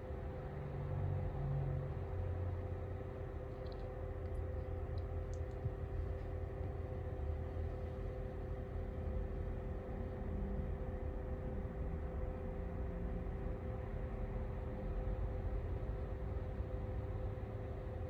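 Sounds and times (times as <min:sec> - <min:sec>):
heater fan whirring: 0:00.0 - 0:18.0.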